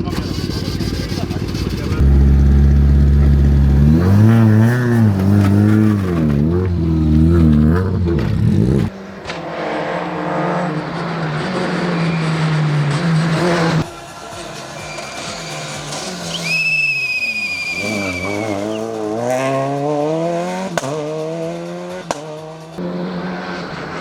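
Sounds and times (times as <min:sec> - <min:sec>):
rally car engine revving: 0:00.0 - 0:13.9, 0:15.4 - 0:24.0.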